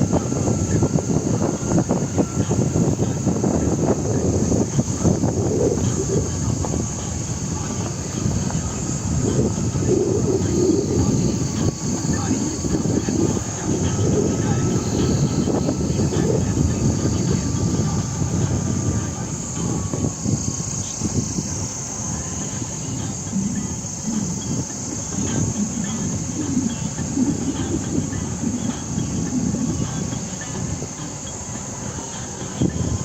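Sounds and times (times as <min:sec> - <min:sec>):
high insect buzz: 0:00.0 - 0:33.0.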